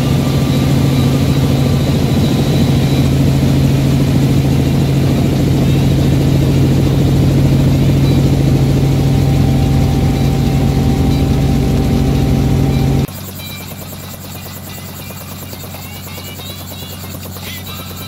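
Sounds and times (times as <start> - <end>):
helicopter engine and rotors droning: 0.0 - 18.0.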